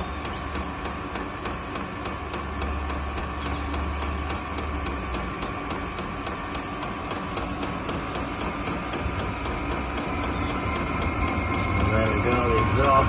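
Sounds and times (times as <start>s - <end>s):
blower fan humming: 0.0s - 13.0s
fuel pump ticking: 0.0s - 13.0s.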